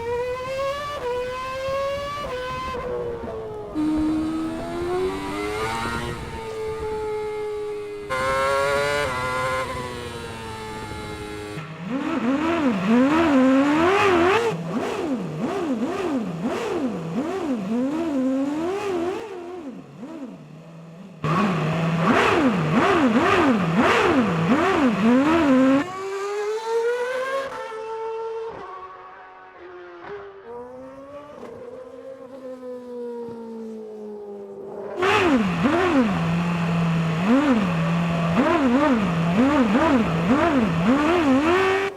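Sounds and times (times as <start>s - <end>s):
race car engine revving: 0.0s - 32.3s, 34.9s - 41.9s.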